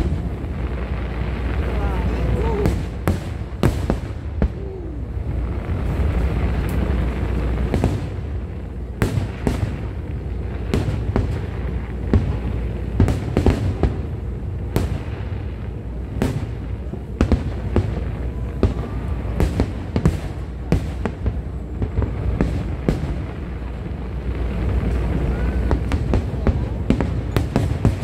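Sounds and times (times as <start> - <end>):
continuous low rumble: 0.0 - 28.0
fireworks bangs: 0.0 - 28.0.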